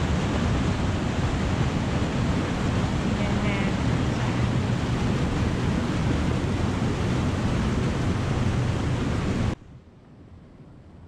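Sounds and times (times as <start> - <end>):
white water rushing below dam: 0.0 - 9.6.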